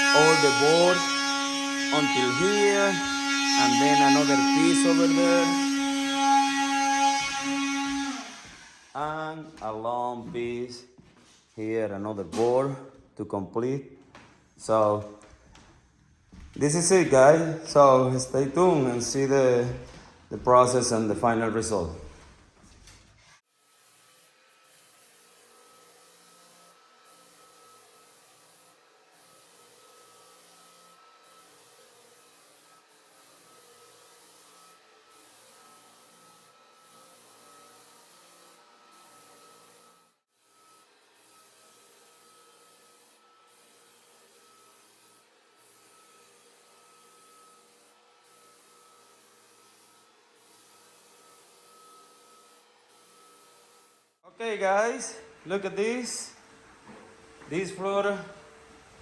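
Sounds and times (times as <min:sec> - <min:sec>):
floor sanding machine: 0:00.0 - 0:10.4, 0:16.3 - 0:54.1.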